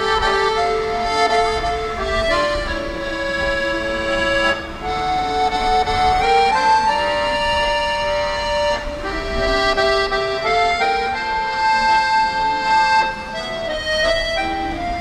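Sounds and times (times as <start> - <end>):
accordion playing: 0.0 - 15.0.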